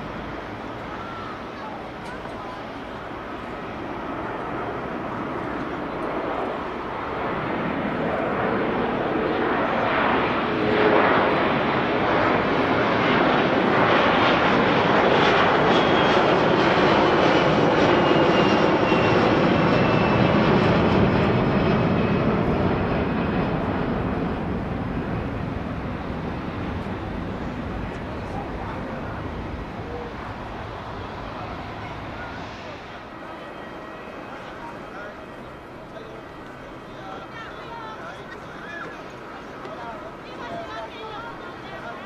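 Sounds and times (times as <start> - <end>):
jet engine roar: 0.0 - 42.0.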